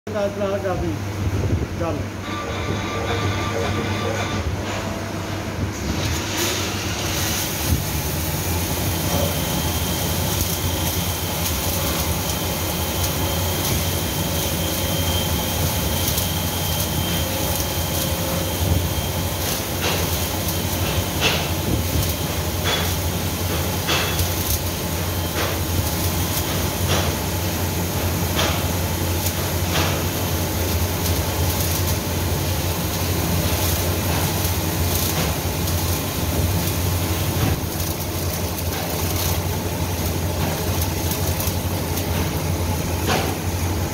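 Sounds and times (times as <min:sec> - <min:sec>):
coolant spray hiss: 0:06.1 - 0:43.6.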